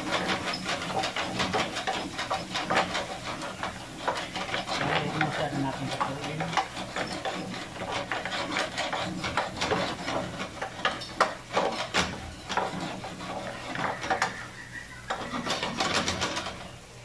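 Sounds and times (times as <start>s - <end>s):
wooden spoon scraping a pan: 0.0s - 17.0s.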